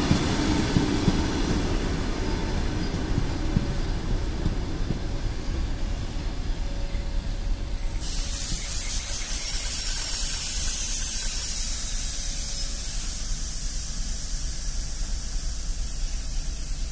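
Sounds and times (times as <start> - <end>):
loud high hiss: 0.0 - 16.9
train coaches rumbling past: 0.0 - 16.9.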